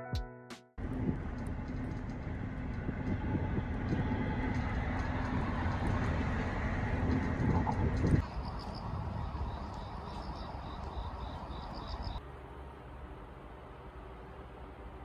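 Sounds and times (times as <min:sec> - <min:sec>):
bus engine and road noise: 0:00.8 - 0:15.0
low hum: 0:00.8 - 0:15.0.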